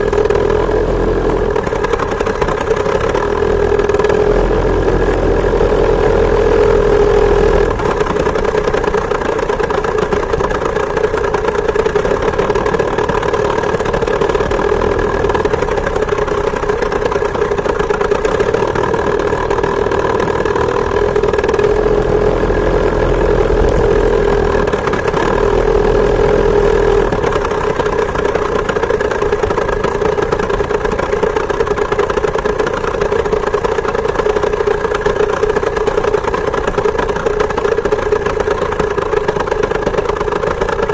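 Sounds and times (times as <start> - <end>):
two-stroke moped engine running: 0.0 - 40.9.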